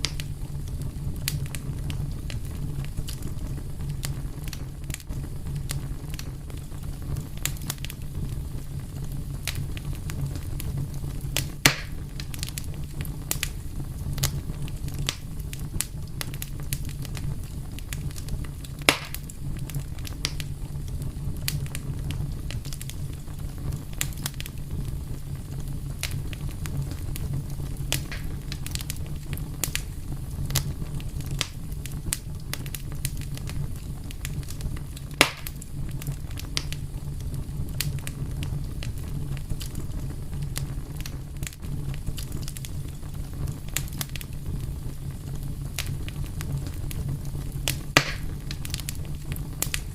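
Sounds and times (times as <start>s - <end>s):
fire crackles and pops: 0.0s - 49.9s
wood fire rumbling: 0.0s - 49.9s.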